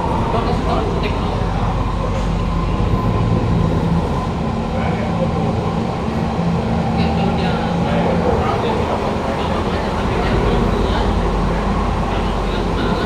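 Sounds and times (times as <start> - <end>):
train rolling rumble: 0.0 - 13.0.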